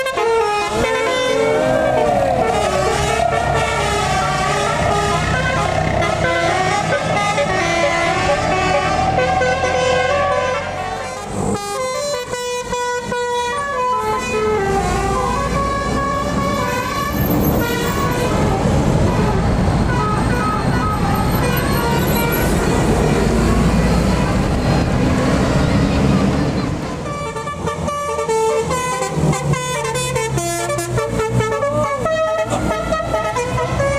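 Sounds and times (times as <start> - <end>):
bus musical horn melody: 0.0 - 24.8, 26.9 - 33.9
bus engine running: 0.0 - 33.9.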